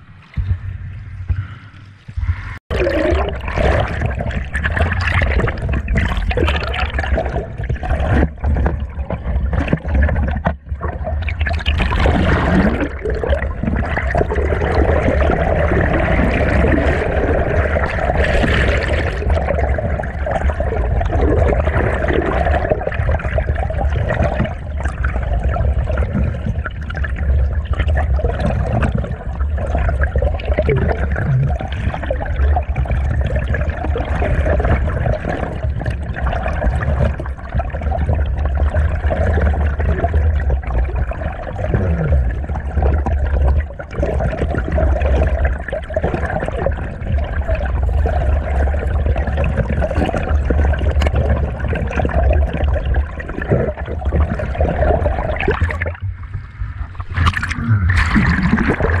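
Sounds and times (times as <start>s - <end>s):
muffled underwater stream rushing: 0.0s - 59.0s.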